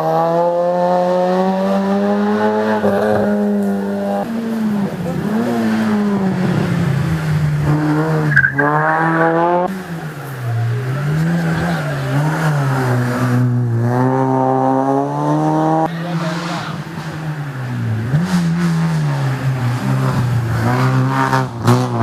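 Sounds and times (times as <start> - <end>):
racing car engine revving: 0.0 - 22.0.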